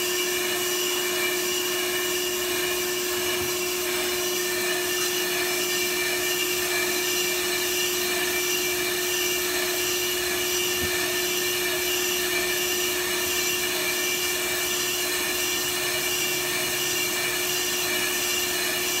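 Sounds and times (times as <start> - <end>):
brake lathe humming: 0.0 - 19.0.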